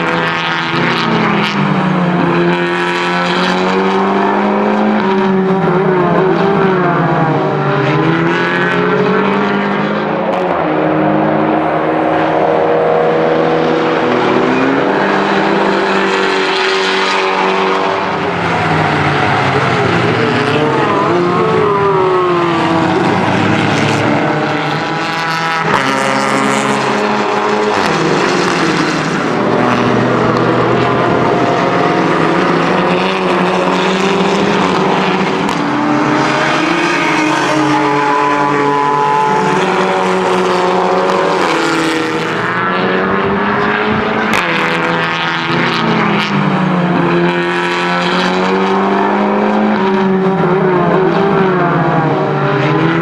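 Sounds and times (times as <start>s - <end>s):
race car engine revving through gears: 0.0s - 53.0s.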